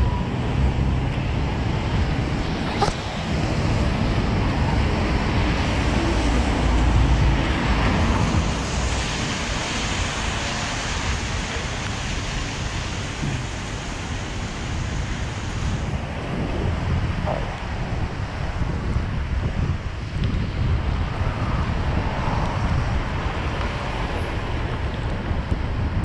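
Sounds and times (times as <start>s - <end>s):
traffic on wet pavement: 0.0s - 26.0s
wind over microphone: 0.0s - 26.0s.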